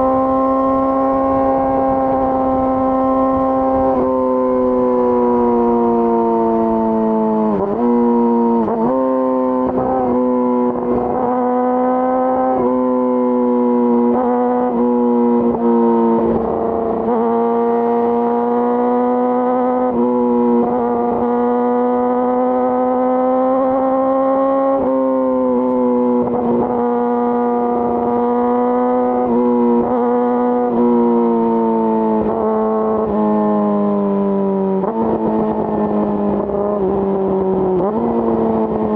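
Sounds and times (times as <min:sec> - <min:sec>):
motorcycle engine at high rpm: 0:00.0 - 0:38.9.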